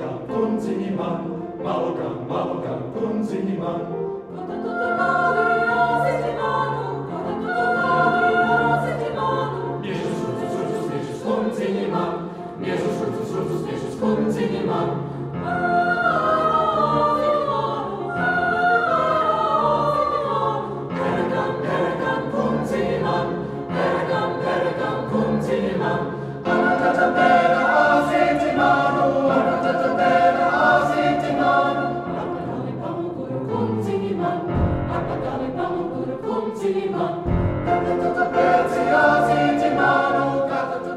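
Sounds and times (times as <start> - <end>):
choir singing: 0.0 - 40.9
musical accompaniment: 0.0 - 40.9.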